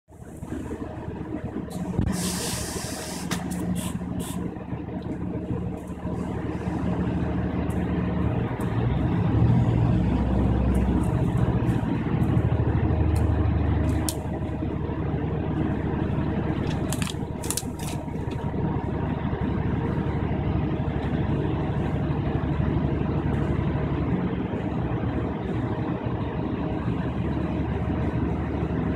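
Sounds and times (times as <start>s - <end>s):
diesel railcar engine under power: 0.1s - 28.9s.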